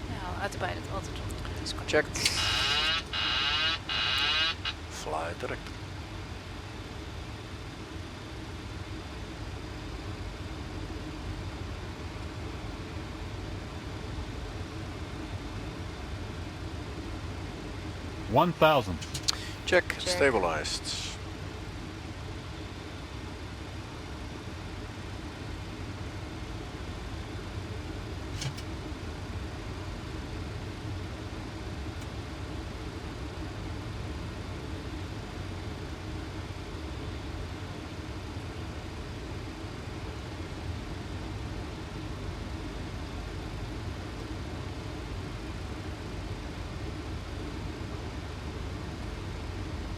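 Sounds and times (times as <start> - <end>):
cockpit airflow and engine drone: 0.0 - 49.9.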